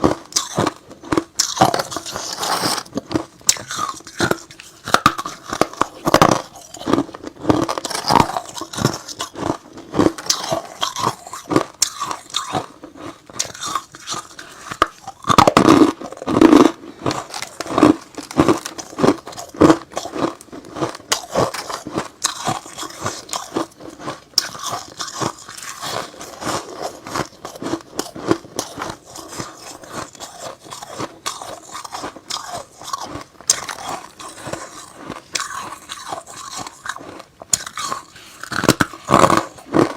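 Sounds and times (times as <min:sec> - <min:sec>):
crunching ice: 0:00.0 - 0:39.9.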